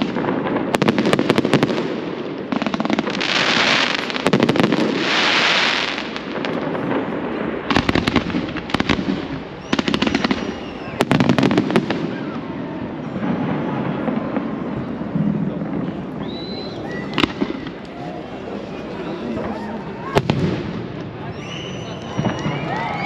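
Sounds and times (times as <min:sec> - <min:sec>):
fireworks crackling pops: 0:00.0 - 0:23.0.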